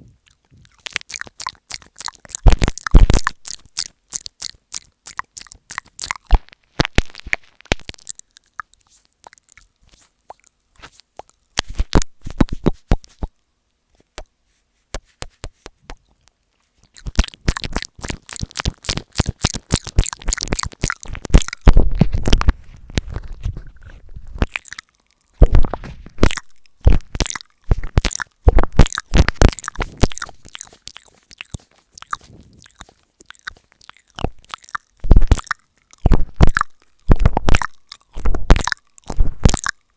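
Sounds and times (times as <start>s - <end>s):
muffled mouth over microphone: 0.0s - 13.4s, 14.9s - 16.2s, 16.8s - 39.8s
wet mouth clicks and smacks: 0.1s - 13.4s, 14.9s - 39.9s.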